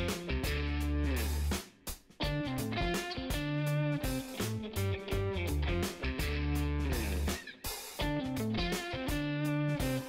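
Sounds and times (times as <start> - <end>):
instrumental guitar music: 0.0 - 10.0.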